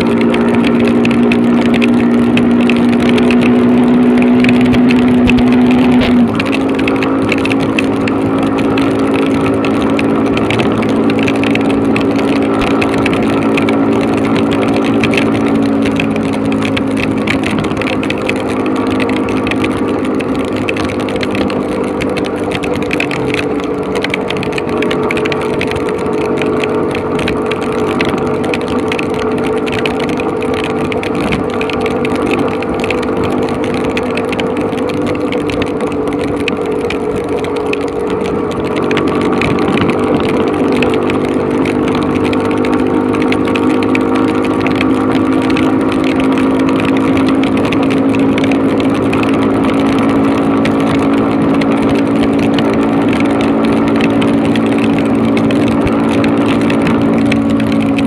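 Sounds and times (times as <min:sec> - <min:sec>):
heavy rain: 0:00.0 - 0:58.0
motorcycle engine running: 0:00.0 - 0:58.0
wind: 0:00.0 - 0:58.0.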